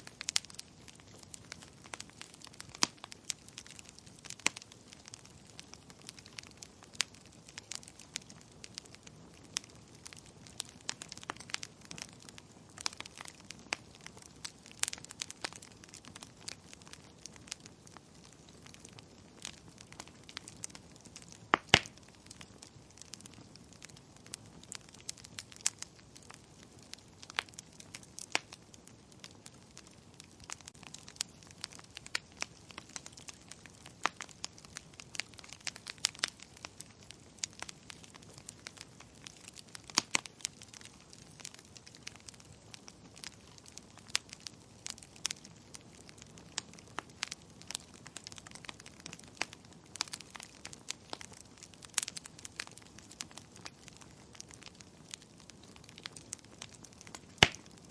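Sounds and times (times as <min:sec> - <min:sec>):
wood fire crackling: 0:00.0 - 0:57.9.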